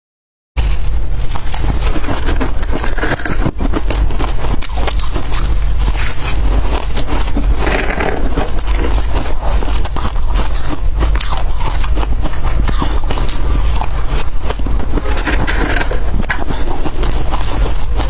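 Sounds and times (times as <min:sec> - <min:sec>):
freezer frost being scraped: 0:00.6 - 0:18.0.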